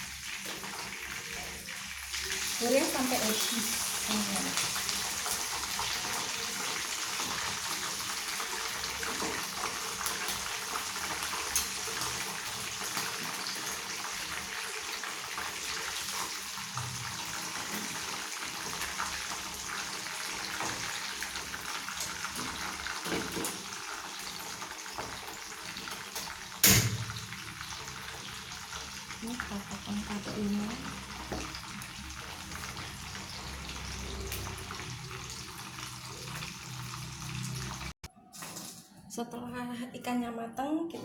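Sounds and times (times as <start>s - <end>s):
hot oil sizzling and crackling: 0.0s - 38.9s.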